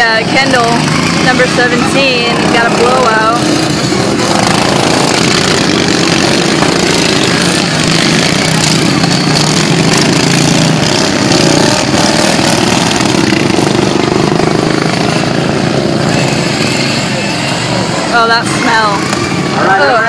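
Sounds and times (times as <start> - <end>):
racing lawn mower engines: 0.0 - 20.0.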